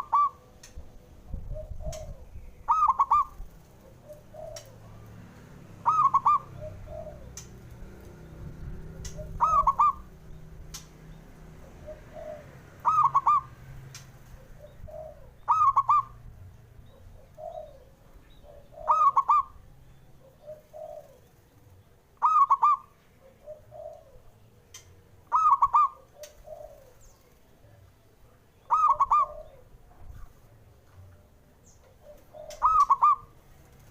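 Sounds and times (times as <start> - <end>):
dove cooing: 0.0 - 10.4, 11.4 - 27.8, 28.5 - 33.9.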